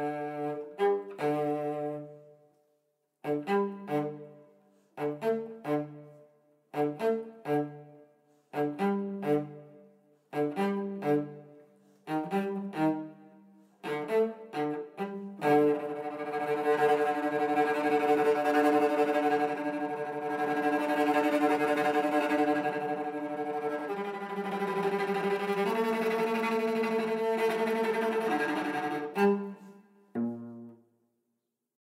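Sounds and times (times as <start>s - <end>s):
cello playing: 0.0s - 2.3s, 3.2s - 4.4s, 5.0s - 30.8s.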